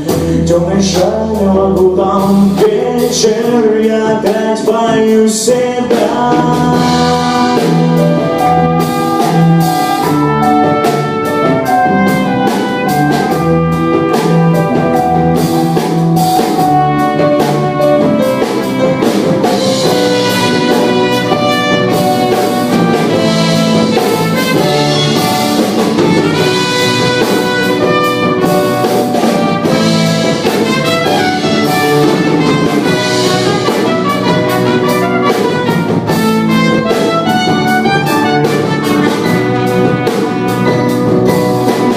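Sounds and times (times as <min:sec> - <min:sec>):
brass playing melody: 0:00.0 - 0:41.9
drum kit: 0:00.0 - 0:41.9.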